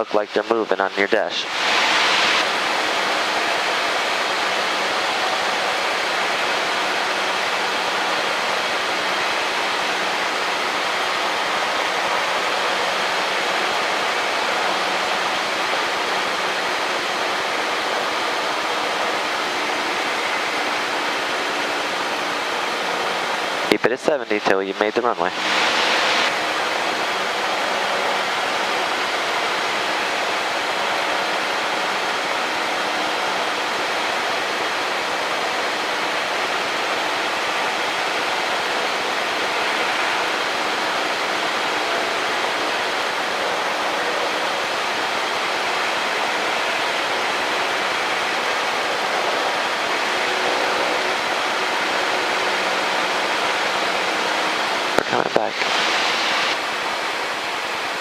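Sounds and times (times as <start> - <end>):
aircraft cockpit engine hiss: 0.0 - 36.8, 37.5 - 58.0.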